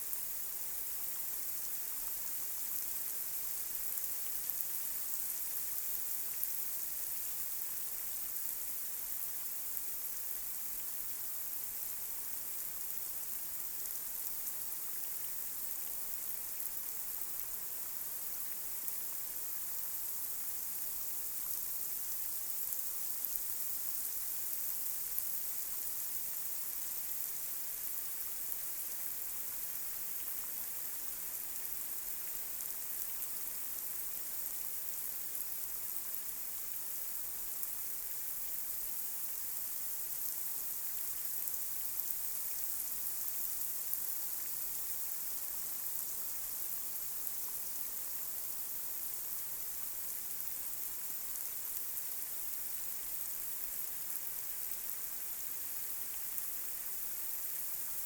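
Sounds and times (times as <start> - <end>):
light rain on a street: 0.0 - 58.0.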